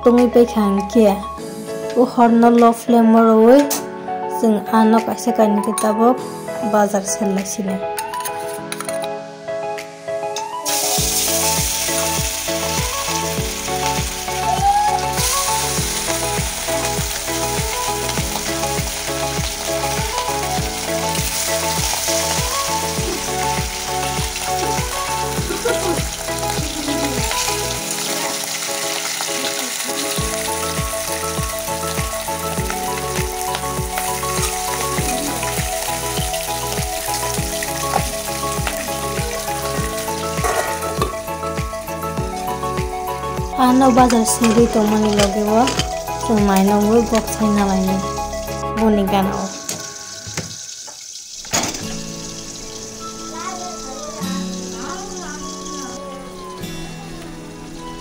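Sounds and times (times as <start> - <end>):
fish frying in hot oil: 10.7 - 41.7, 42.3 - 58.0.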